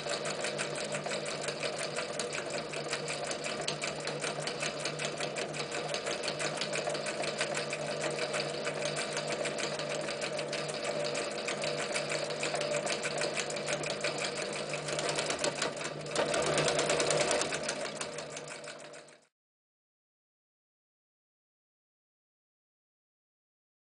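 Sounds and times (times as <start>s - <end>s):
sewing machine motor hum: 0.0s - 19.3s
sewing needle clatter: 0.0s - 19.3s.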